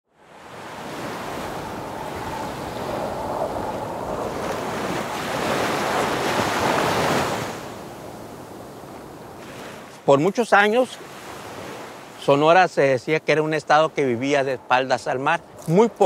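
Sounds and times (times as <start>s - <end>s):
ocean surf washing in: 0.1s - 16.0s.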